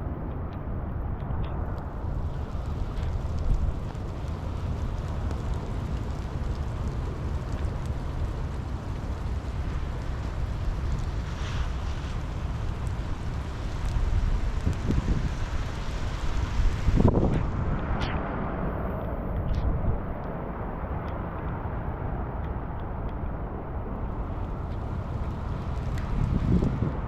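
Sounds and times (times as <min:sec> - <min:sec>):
wind rumbling on microphone: 0:00.0 - 0:27.0
steady rain: 0:01.4 - 0:27.0.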